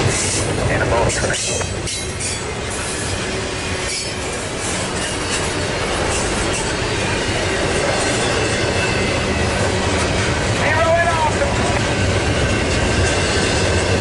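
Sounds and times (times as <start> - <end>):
steel wheels rumbling on rail: 0.0 - 14.0
wheels clacking over rail joints: 0.0 - 14.0.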